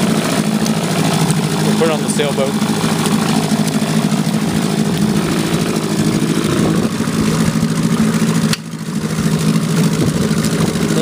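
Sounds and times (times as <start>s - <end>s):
engine cover knocking: 0.0s - 11.0s
outboard engine running: 0.0s - 11.0s.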